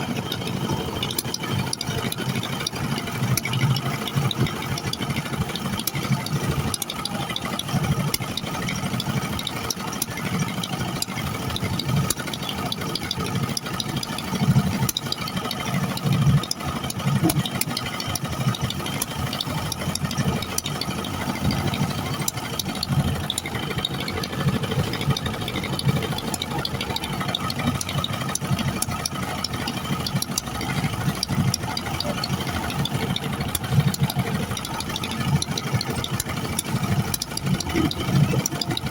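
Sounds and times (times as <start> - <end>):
boat engine running: 0.0 - 38.9
scattered clicks: 0.0 - 38.9.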